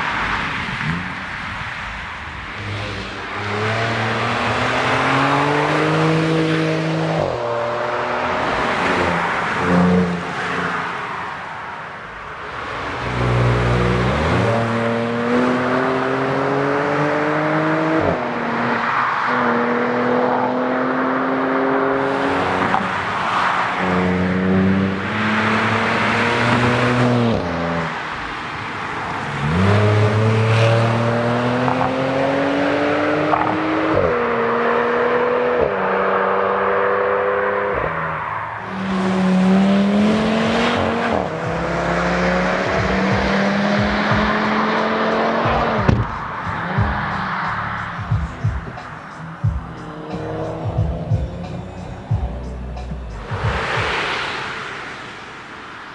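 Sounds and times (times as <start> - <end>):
car engine accelerating: 0.0 - 11.2, 12.0 - 55.6.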